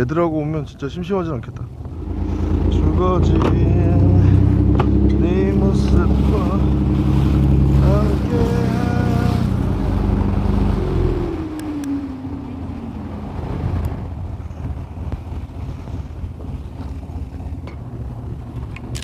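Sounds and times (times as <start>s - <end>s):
boat engine running: 0.0s - 19.0s
water rushing against hull: 0.0s - 19.0s
wind: 0.0s - 19.0s.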